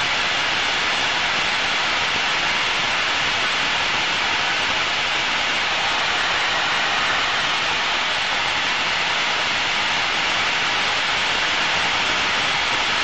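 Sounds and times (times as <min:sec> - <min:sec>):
jet cockpit rushing hiss: 0:00.0 - 0:13.0.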